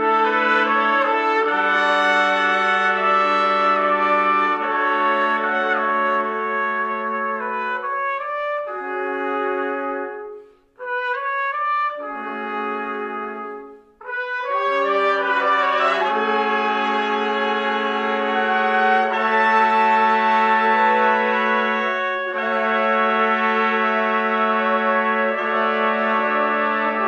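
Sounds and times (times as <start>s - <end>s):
trumpet ensemble sustained chords: 0.0s - 27.0s.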